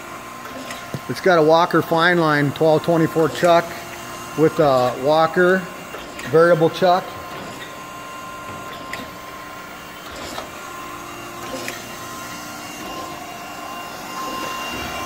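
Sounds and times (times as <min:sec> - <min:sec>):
grinder humming: 0:00.0 - 0:15.0.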